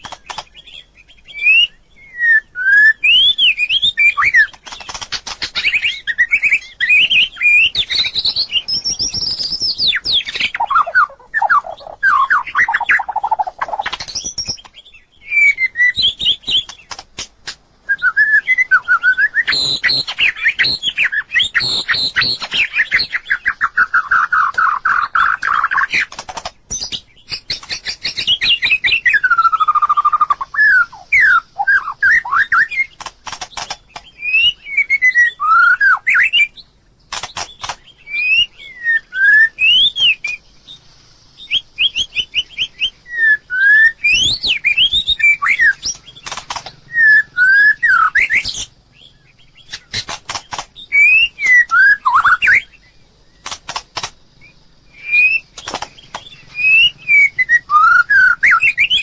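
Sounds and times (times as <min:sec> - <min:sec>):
bird singing whistled notes: 0:00.0 - 0:17.0, 0:17.8 - 0:59.0.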